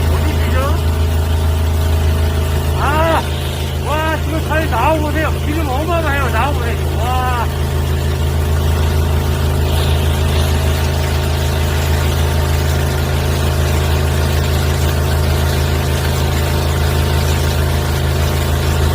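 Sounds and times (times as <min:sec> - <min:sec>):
drain jetter engine droning: 0:00.0 - 0:18.9.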